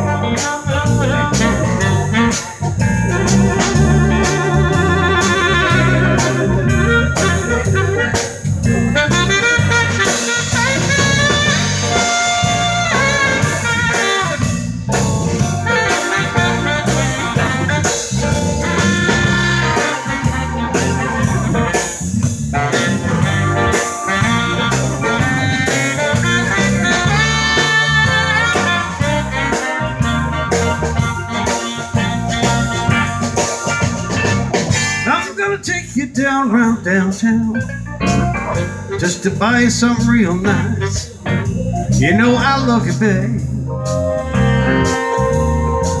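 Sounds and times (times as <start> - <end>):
saxophone lead: 0.0 - 35.4, 37.5 - 46.0
electric guitars: 0.0 - 35.8, 37.6 - 46.0
drum kit steady beat: 0.0 - 46.0
electric keyboard: 0.0 - 46.0.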